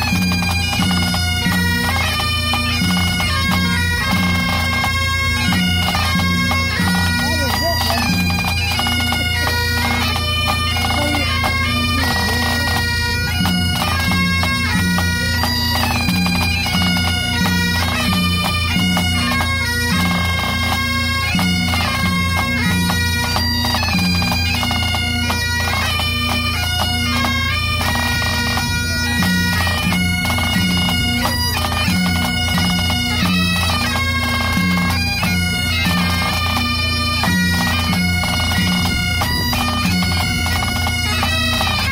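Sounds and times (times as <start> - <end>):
snare and tenor drums: 0.0 - 41.7
bagpipes playing: 0.0 - 41.9.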